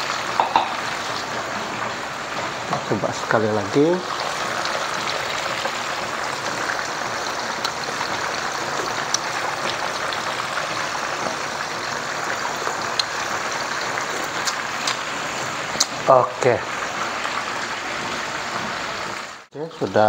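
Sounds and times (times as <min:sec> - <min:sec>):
gravy simmering in a wok: 0:00.0 - 0:20.0.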